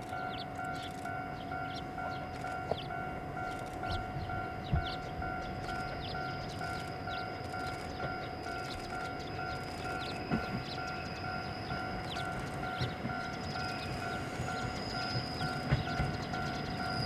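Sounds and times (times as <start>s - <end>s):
electric train approaching: 0.0s - 17.0s
electronic railway warning bell: 0.0s - 17.0s.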